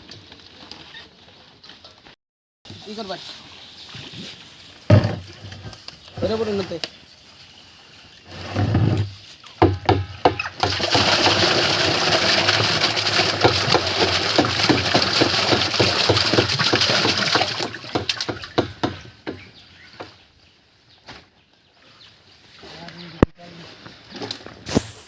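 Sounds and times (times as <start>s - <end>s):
water splashing and sloshing: 0.0s - 20.6s.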